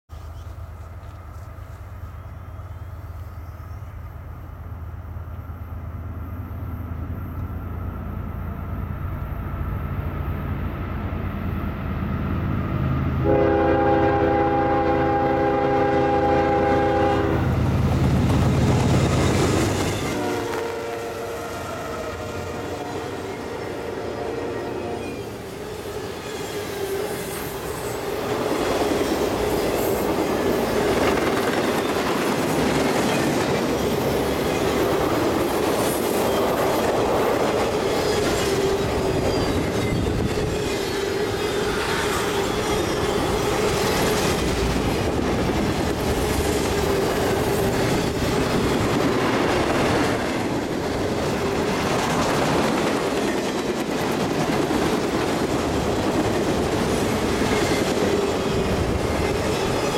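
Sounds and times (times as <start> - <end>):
train wheels rumbling on rail: 0.1 - 59.9.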